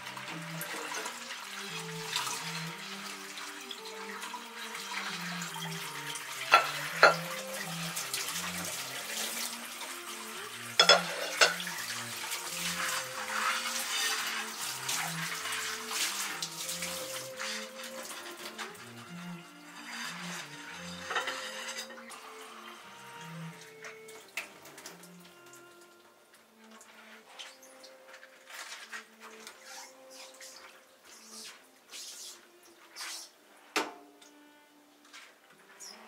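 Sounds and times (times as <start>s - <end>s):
tap water running into sink: 0.0s - 33.2s.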